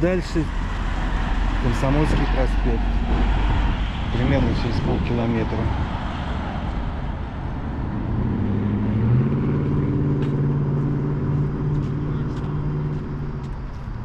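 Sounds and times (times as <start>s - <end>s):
traffic noise: 0.0s - 14.0s
vehicle engine revving: 0.0s - 14.0s.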